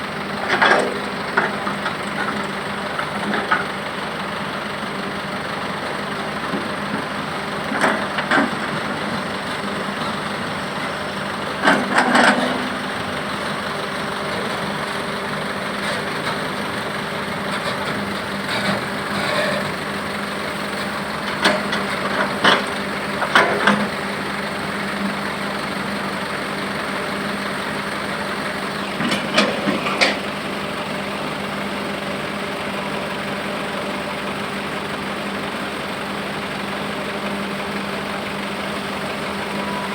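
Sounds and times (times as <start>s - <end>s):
heavy vehicle engine idling: 0.0s - 39.9s.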